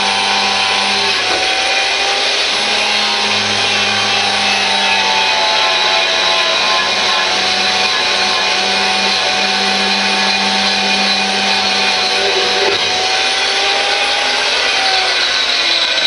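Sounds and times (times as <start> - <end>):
electric power tool stripping paint: 0.0 - 16.0.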